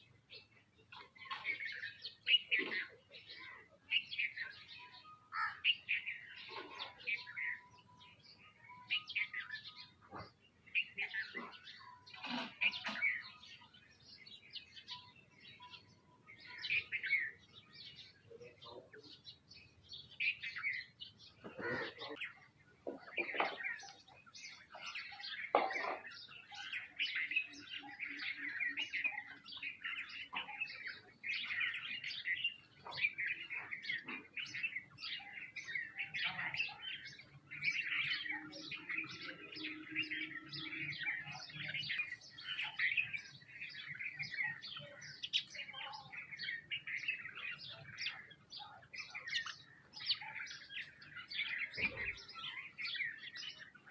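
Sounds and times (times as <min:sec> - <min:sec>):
flock of small birds chirping: 0:00.0 - 0:53.9.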